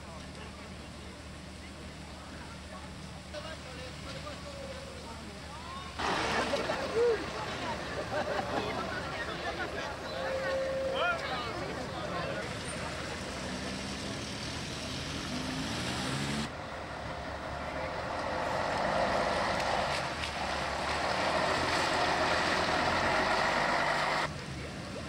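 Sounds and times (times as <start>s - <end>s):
car engines running: 0.0s - 25.0s
tyres on wet tarmac: 0.0s - 25.0s.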